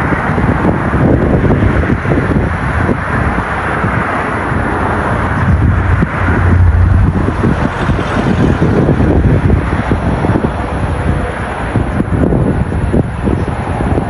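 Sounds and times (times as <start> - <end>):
jet engine rumble: 0.0 - 14.0
wind buffeting microphone: 0.0 - 14.0.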